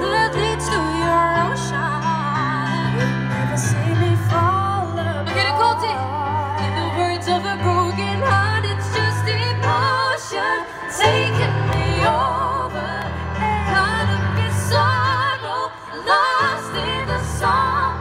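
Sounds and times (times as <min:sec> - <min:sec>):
keyboard: 0:00.0 - 0:18.0
women singing with vibrato: 0:00.0 - 0:18.0.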